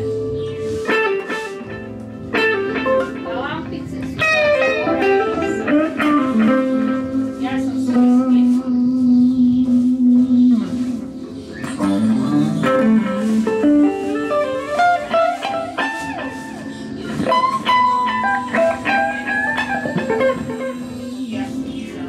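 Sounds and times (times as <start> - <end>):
steady low guitar note: 1.7 - 21.5.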